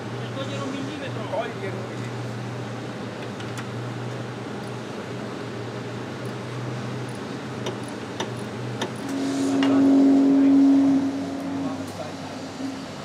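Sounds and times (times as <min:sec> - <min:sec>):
cooling blower whirring: 0:00.0 - 0:13.0.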